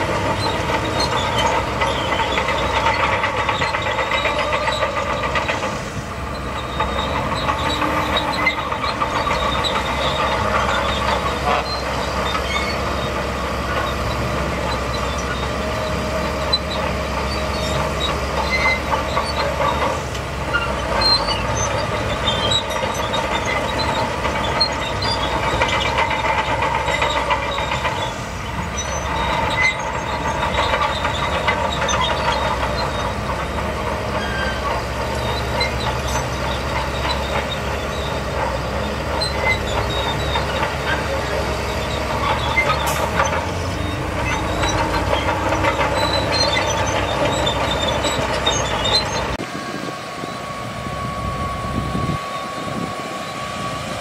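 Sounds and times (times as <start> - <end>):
diesel engine under load: 0.0 - 54.0
steel tracks clattering: 0.0 - 54.0.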